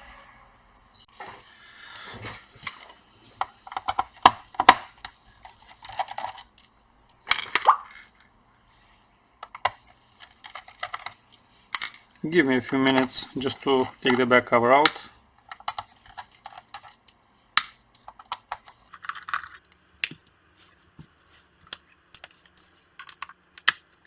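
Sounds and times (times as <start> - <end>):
laptop and tools handled: 1.2 - 7.7, 9.4 - 24.0.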